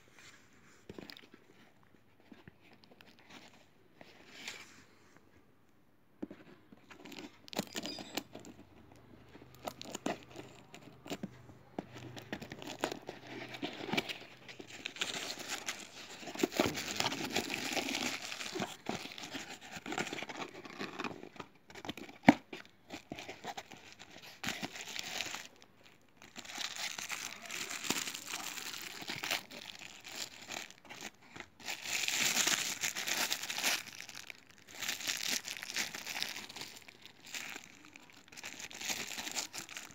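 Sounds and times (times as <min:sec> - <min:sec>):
packaging crinkling and tearing: 0:06.8 - 0:08.8, 0:09.4 - 0:39.9.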